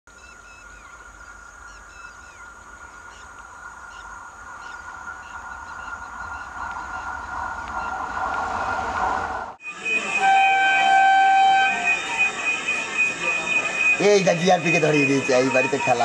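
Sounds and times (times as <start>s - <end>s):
birds chirping: 0.1s - 8.4s, 9.6s - 16.0s
steady high hum: 1.1s - 16.0s
electric train approaching: 1.7s - 16.0s.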